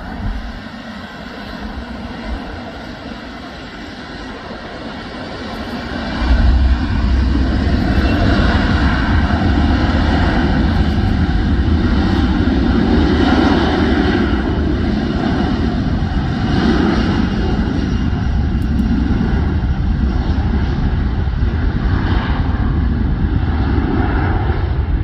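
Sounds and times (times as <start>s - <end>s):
jet engines of passing airliner: 0.0s - 25.0s.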